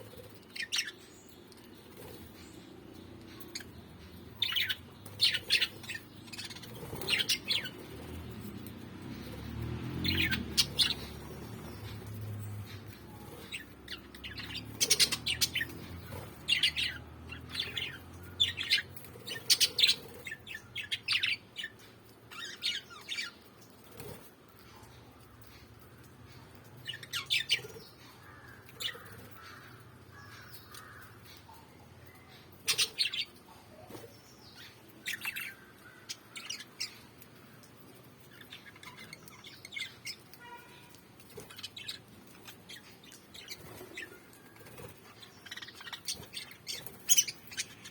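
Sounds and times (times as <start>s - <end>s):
parrots chirping and squawking: 0.0s - 47.9s.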